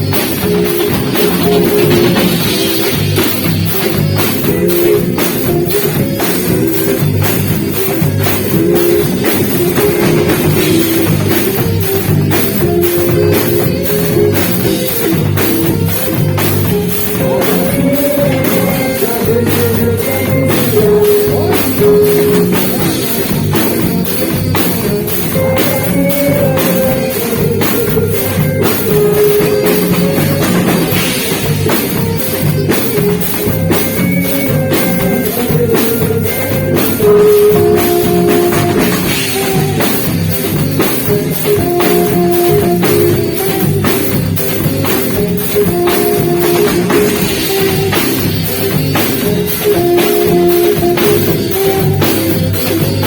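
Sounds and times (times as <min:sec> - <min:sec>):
drum kit: 0:00.0 - 0:53.0
guitar: 0:00.0 - 0:53.0
saxophone melody: 0:00.0 - 0:53.0.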